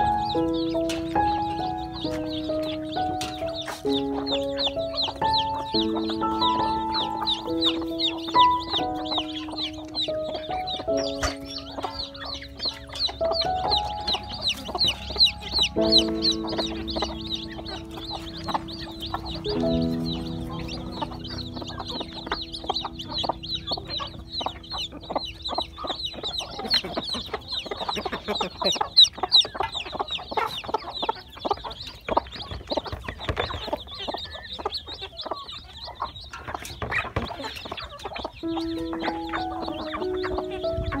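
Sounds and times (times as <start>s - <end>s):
chicks peeping: 0.0s - 41.0s
hens clucking: 0.0s - 41.0s.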